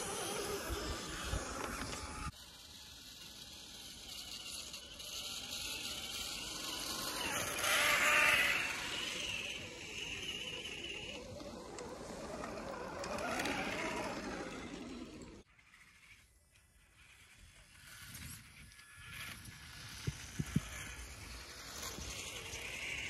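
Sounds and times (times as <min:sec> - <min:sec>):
toy truck electric motor whining: 0:00.0 - 0:23.0.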